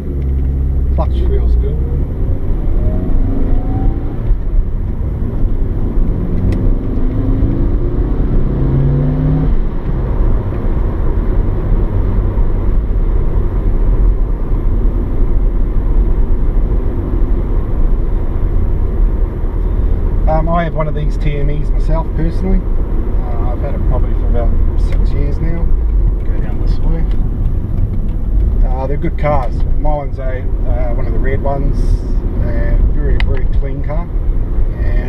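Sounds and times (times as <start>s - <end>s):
car engine accelerating: 0.0s - 35.0s
low road rumble: 0.0s - 35.0s.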